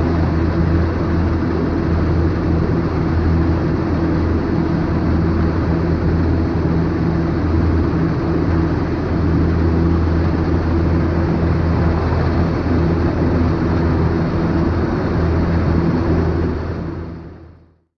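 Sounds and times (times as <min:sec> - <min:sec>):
wind rush: 0:00.0 - 0:17.3
airplane engine and propeller: 0:00.0 - 0:17.8.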